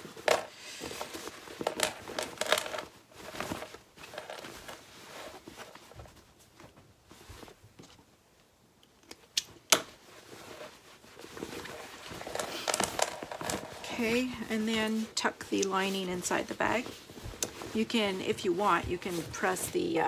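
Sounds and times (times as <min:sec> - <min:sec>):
fabric rustling and crumpling: 0:00.0 - 0:08.3, 0:09.2 - 0:20.0.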